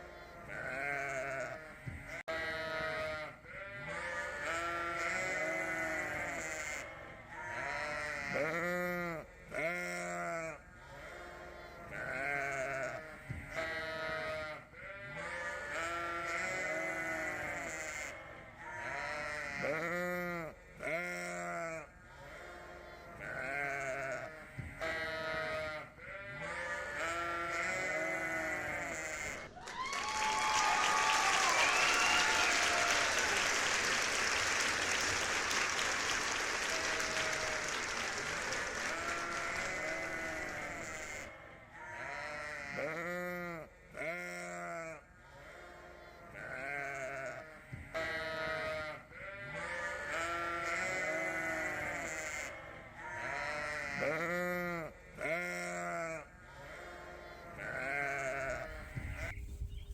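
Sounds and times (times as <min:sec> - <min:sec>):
sheep bleating: 0:00.0 - 0:29.5, 0:38.5 - 0:59.4.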